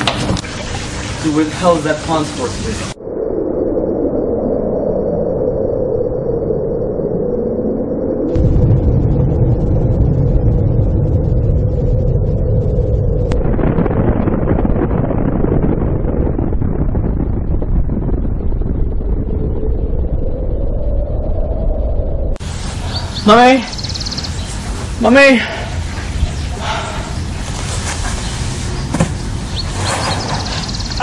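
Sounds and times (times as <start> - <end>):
loud low rumbling: 2.6 - 31.0.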